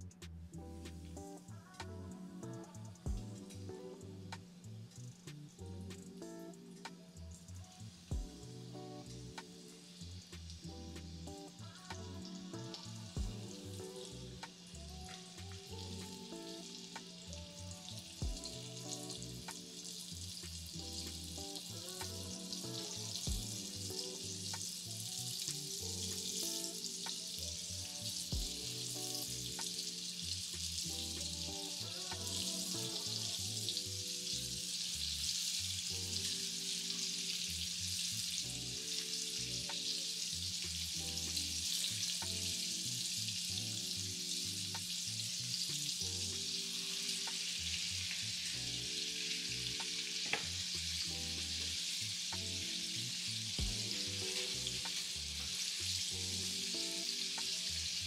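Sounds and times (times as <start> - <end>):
chicken frying in oil: 9.3 - 58.0.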